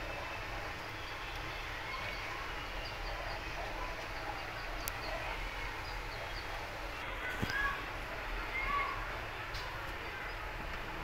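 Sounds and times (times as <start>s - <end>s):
kitchen hiss and rumble: 0.0s - 11.0s.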